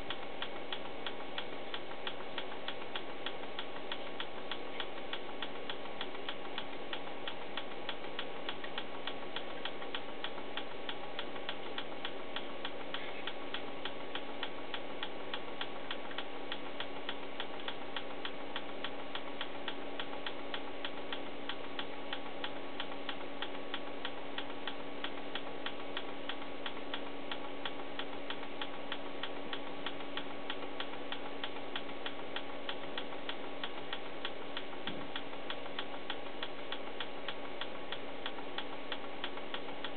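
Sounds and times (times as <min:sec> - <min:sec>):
oscilloscope ticking: 0:00.0 - 0:39.9
steady hum: 0:00.0 - 0:39.9.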